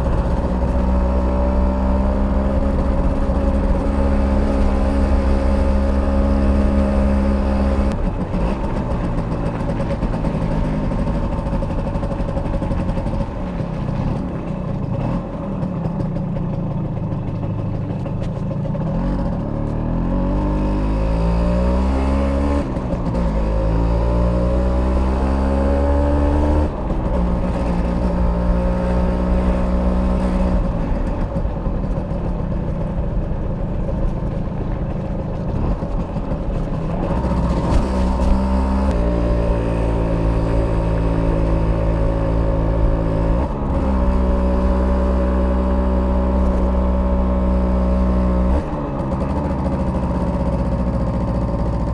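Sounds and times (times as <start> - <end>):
moped engine revving: 0.0 - 51.9.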